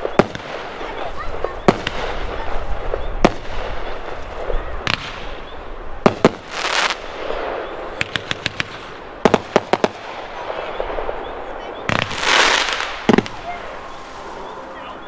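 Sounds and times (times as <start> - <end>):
fireworks hissing burst: 0.0 - 15.0
fireworks shots firing: 0.0 - 15.0.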